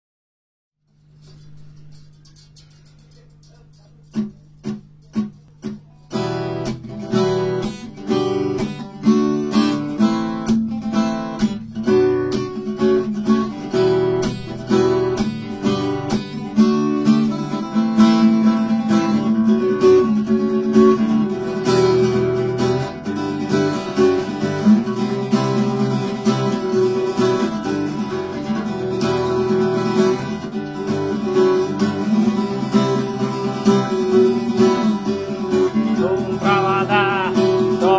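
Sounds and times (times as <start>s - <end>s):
acoustic guitar chords and strumming: 0.9s - 37.9s.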